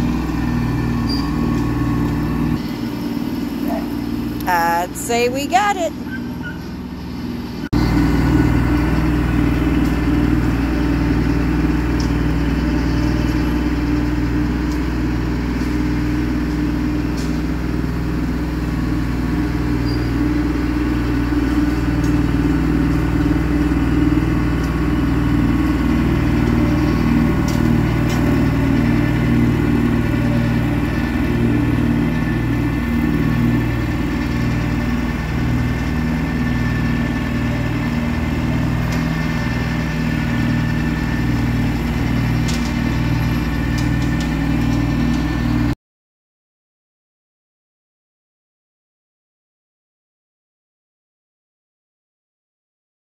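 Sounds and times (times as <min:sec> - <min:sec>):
tractor diesel engine running: 0:00.0 - 0:45.8.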